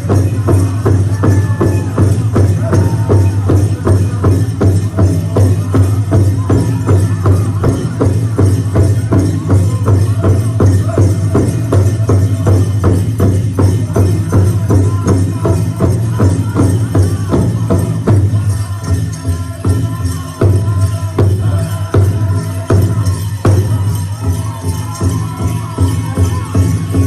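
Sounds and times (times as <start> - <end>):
large hand drum beating: 0.0 - 27.0
voices singing: 0.0 - 27.0.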